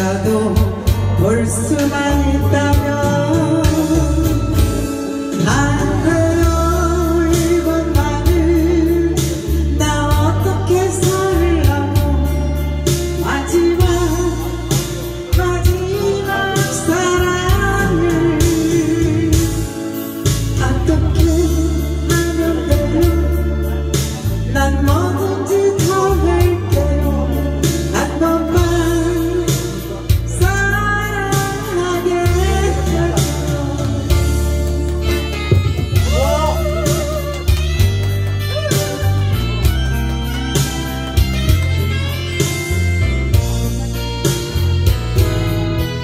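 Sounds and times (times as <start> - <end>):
woman singing into microphone: 0.0 - 41.7
acoustic guitar: 0.0 - 46.0
backing music with bass and beat: 0.0 - 46.0.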